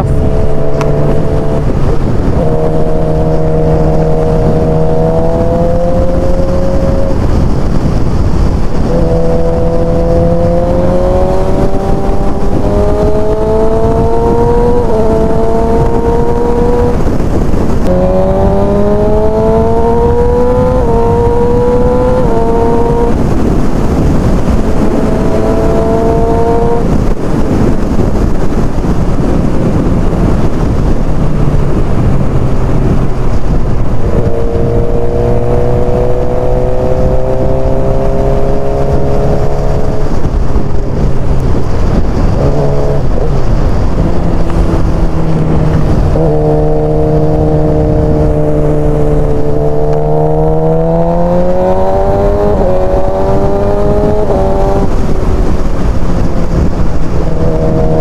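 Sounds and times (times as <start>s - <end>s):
motorcycle engine revving through gears: 0.0s - 58.0s
wind rushing over microphone: 0.0s - 58.0s.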